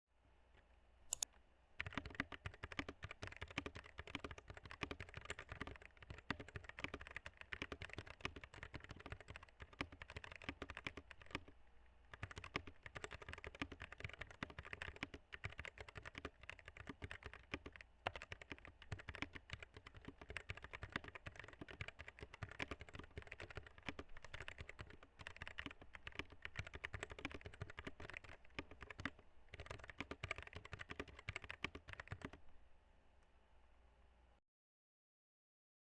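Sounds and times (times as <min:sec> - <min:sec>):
mechanical keyboard typing: 0:01.8 - 0:32.4.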